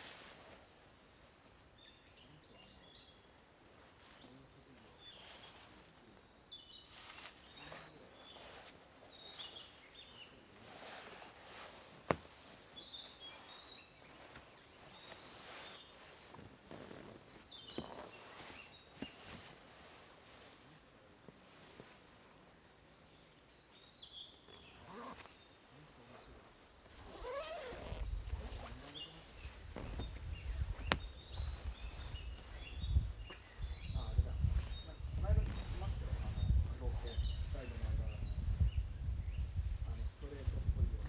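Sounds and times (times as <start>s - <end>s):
small birds chirping: 1.0s - 41.0s
faint rustling: 3.4s - 23.0s, 23.7s - 39.0s.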